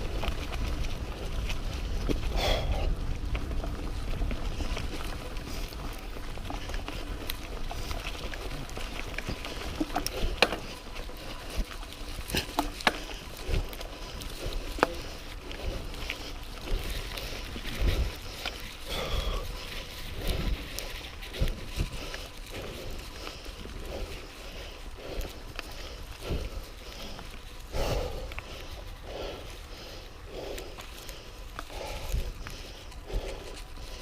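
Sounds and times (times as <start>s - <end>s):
bike clicks and rattles: 0.0s - 34.0s
tyres and wind rumble: 0.0s - 34.0s.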